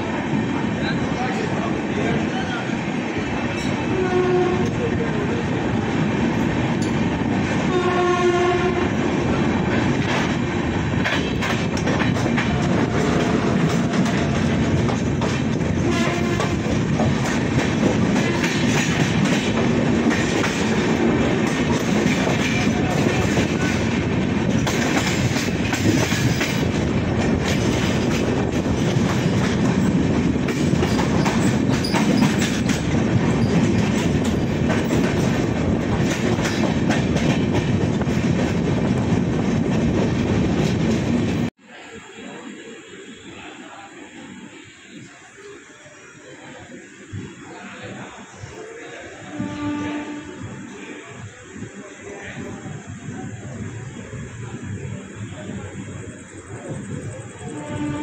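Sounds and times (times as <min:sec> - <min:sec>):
train coaches rumbling: 0:00.0 - 0:58.0.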